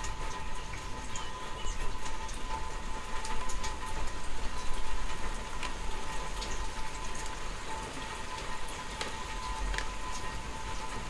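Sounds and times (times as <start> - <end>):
rain on grass and trees: 0.0 - 11.0.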